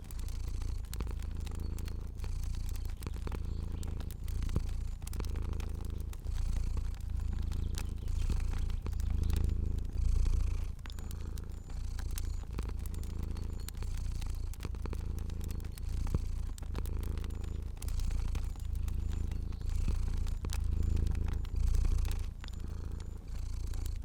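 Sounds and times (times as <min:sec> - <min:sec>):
cat purring: 0:00.0 - 0:24.0
fire crackling and popping: 0:00.0 - 0:24.0.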